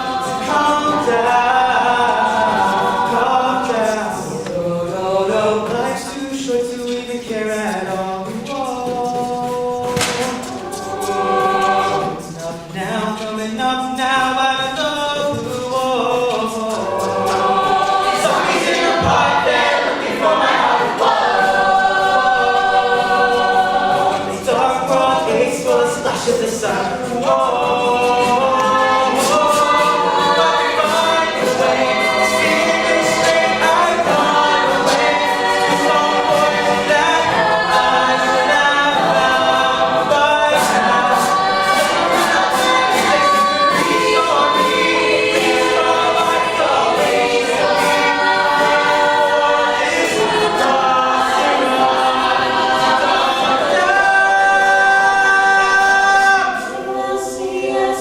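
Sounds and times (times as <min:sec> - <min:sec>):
a cappella group singing in harmony: 0:00.0 - 0:58.0.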